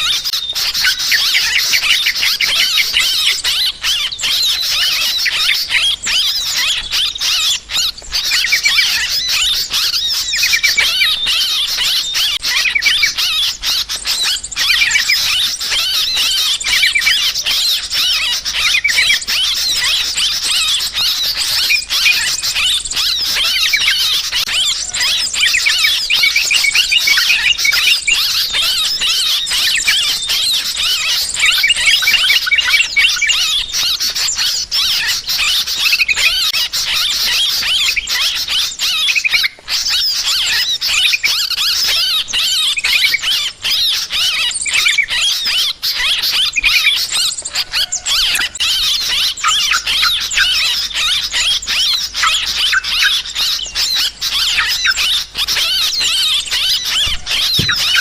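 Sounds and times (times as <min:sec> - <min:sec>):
bulbuls chattering: 0:00.0 - 0:58.0
small birds calling: 0:00.0 - 0:58.0.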